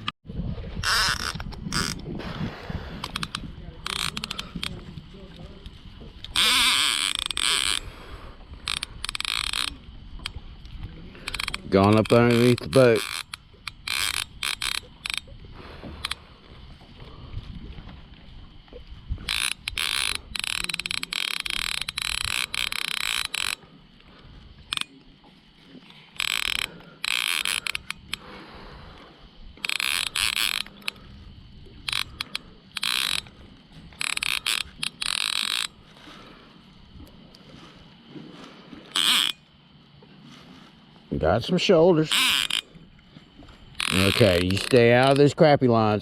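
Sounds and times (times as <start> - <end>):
fishing reel drag buzzing: 0.8 - 2.1, 2.7 - 17.3, 18.0 - 46.0.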